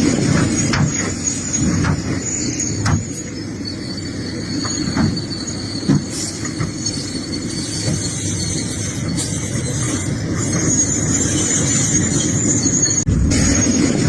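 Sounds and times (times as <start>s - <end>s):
high metallic squeal: 0.1s - 14.0s.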